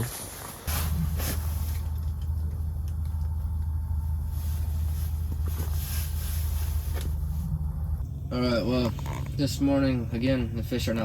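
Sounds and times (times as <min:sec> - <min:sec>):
low motor rumble: 0:00.7 - 0:11.0.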